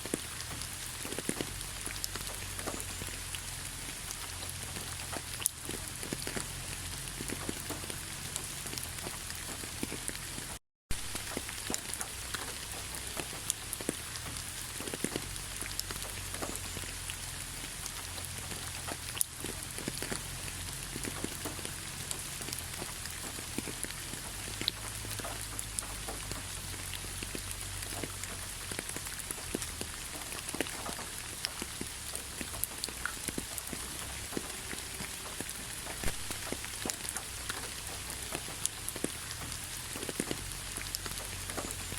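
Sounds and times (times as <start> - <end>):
raindrops ticking: 0.0 - 41.9
steady rain: 0.0 - 41.9.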